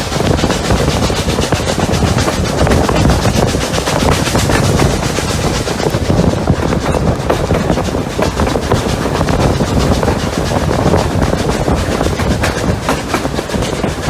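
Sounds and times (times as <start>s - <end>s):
steam train running noise: 0.0s - 14.0s
wheels clicking on rails: 0.0s - 14.0s.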